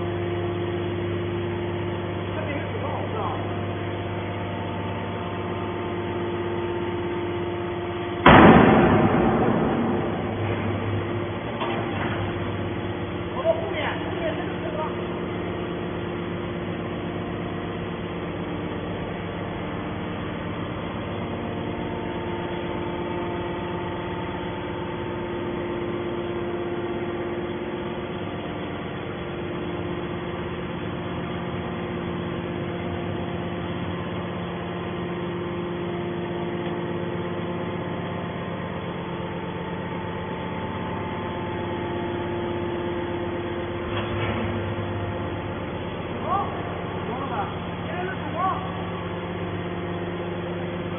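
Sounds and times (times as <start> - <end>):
hydraulic power unit humming: 0.0 - 50.9.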